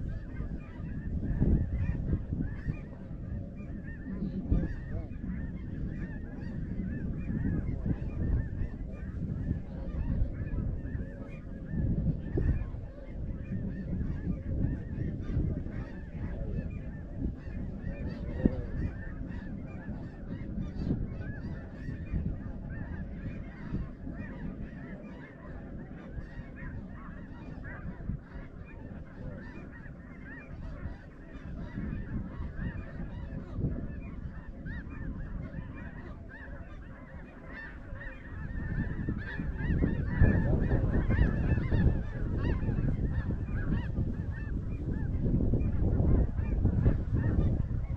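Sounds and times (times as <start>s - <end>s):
flock of geese honking: 0.0s - 47.9s.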